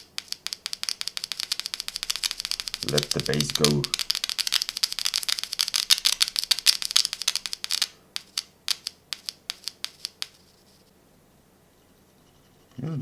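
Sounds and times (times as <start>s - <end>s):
headphone driver crackling: 0.0s - 10.5s.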